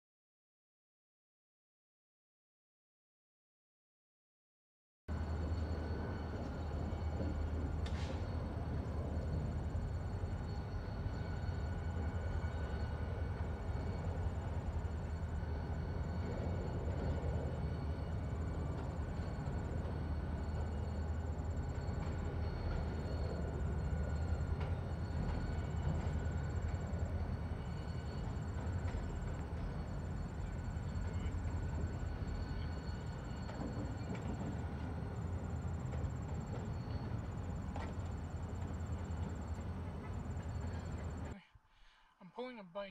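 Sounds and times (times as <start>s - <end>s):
diesel locomotive rumbling: 5.1s - 41.4s.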